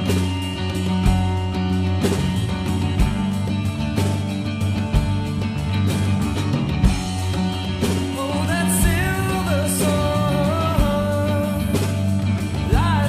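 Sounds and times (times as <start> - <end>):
bass line: 0.0 - 13.0
slow steady drum beat: 0.0 - 13.0.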